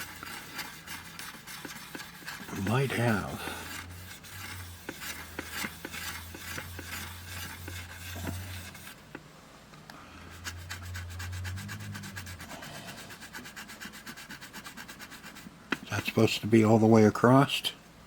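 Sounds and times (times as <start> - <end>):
rubbing and scraping on small parts: 0.0 - 9.2, 10.2 - 16.8.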